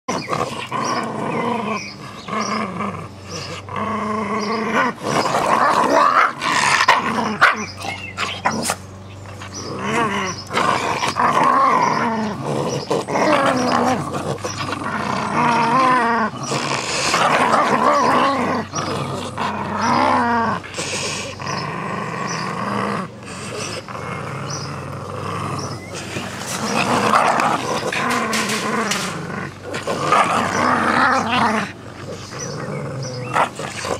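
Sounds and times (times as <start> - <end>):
dogs growling in play: 0.1 - 33.9.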